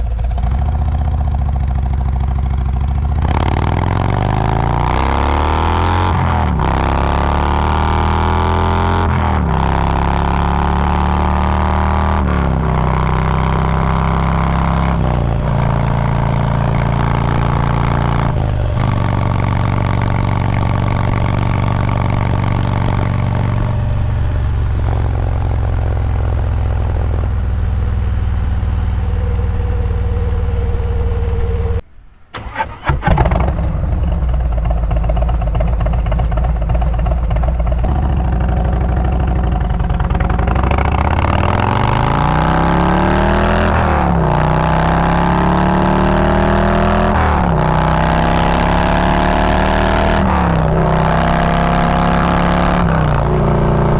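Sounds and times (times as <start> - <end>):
motorcycle engine running loud: 0.0 - 31.8, 33.2 - 53.9.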